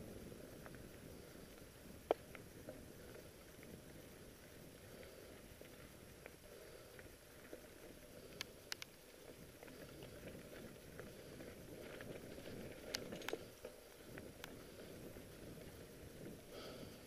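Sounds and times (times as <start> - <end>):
bike rattling over stones: 0.0 - 17.0.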